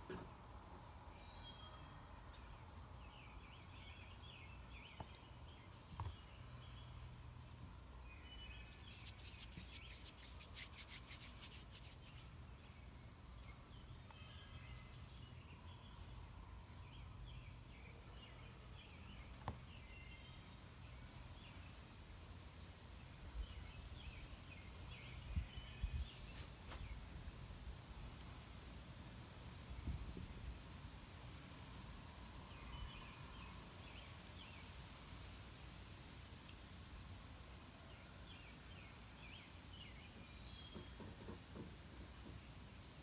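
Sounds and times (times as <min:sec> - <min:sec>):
faint birds chirping: 0:00.1 - 0:43.0.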